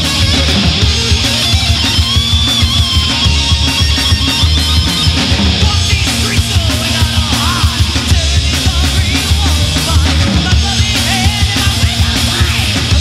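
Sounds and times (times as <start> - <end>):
bass guitar: 0.0 - 13.0
drum kit beat: 0.0 - 13.0
electric guitar bending melody: 0.0 - 13.0.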